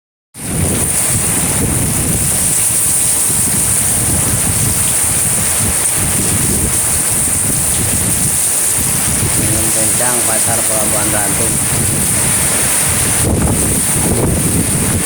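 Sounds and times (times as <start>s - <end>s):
strong wind buffeting microphone: 0.4s - 15.0s.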